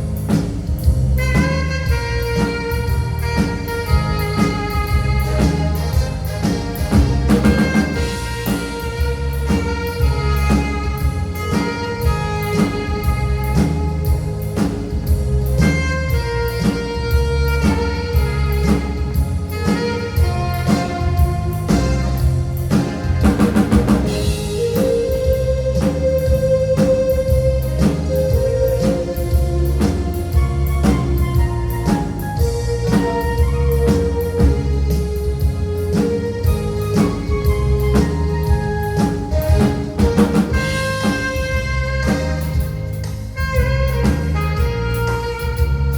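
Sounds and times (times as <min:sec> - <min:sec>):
drum kit beat: 0:00.0 - 0:45.9
keyboard: 0:00.0 - 0:45.9
saxophone melody: 0:00.0 - 0:45.9.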